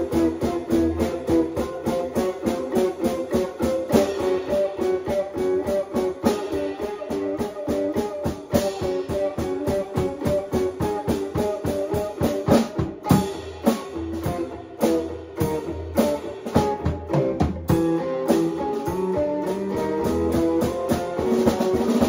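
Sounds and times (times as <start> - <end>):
drum kit: 0.0 - 22.0
guitar strumming chords: 0.0 - 22.0.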